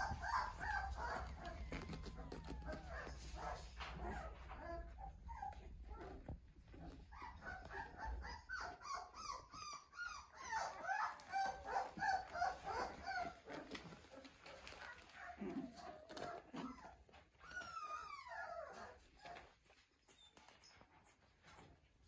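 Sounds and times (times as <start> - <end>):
puppies whining: 0.0 - 22.0.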